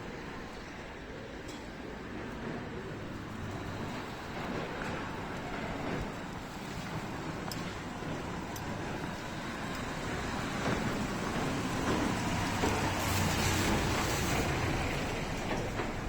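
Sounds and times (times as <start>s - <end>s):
car passing on wet street: 1.9s - 16.0s.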